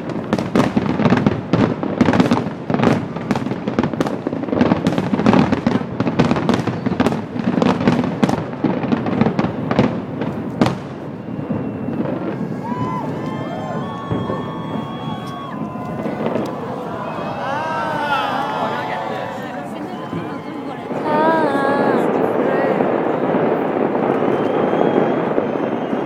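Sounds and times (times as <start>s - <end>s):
fireworks cracks and booms: 0.0s - 26.0s.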